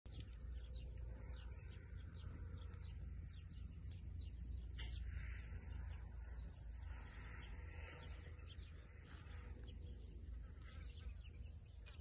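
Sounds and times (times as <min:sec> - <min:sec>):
birds chirping: 0:00.1 - 0:12.0
steady low rumble: 0:00.1 - 0:12.0.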